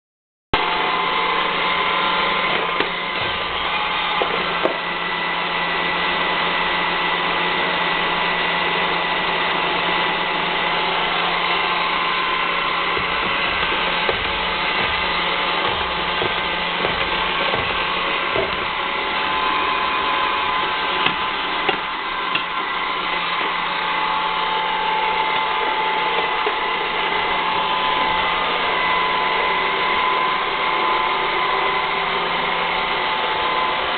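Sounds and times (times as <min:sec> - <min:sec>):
robot vacuum motor whirring: 0:00.7 - 0:33.9.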